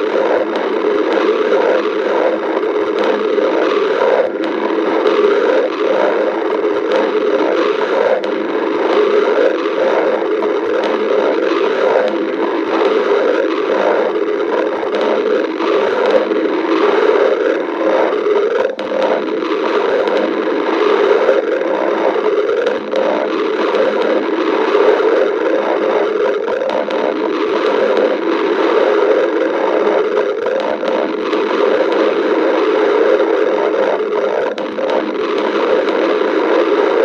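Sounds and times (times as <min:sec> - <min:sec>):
stomach growling: 0:00.0 - 0:37.0.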